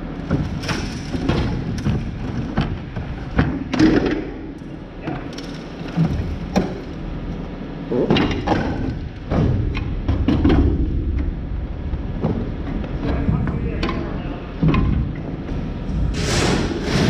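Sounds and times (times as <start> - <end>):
low steady rumble: 0.0 - 17.0
knocks and thumps of equipment: 0.2 - 6.8, 7.9 - 11.4, 12.0 - 17.0.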